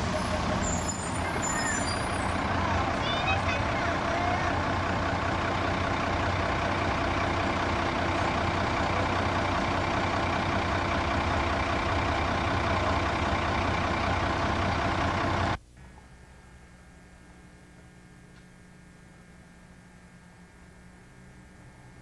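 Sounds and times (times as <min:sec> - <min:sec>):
bus engine idling: 0:00.0 - 0:22.0.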